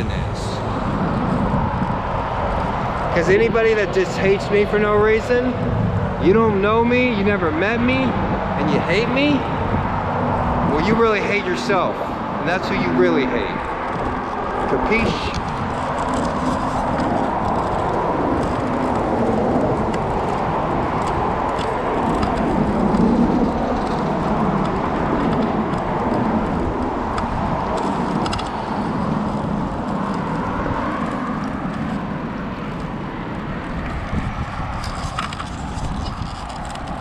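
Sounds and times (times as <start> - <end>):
passing car traffic: 0.0 - 37.0
wind rushing over microphone: 0.0 - 37.0.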